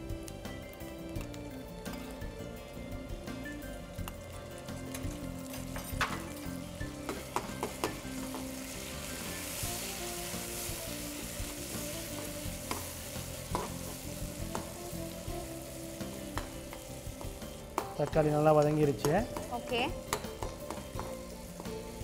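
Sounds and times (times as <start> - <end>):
vegetables sizzling in oil: 1.8 - 22.0.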